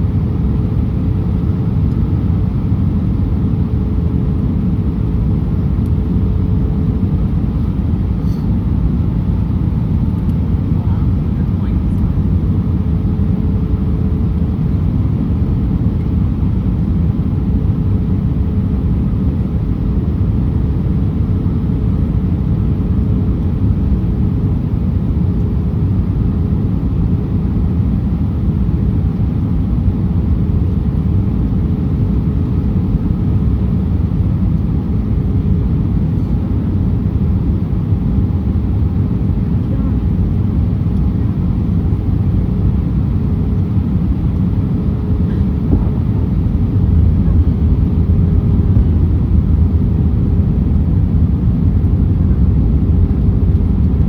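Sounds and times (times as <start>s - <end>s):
engines and rushing air rumble: 0.0s - 54.0s
faint constant hum: 0.0s - 54.0s.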